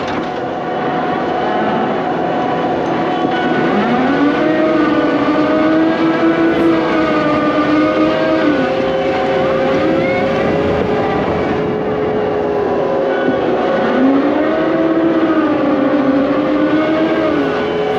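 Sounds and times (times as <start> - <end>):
excavator engine whining under load: 0.0 - 17.9.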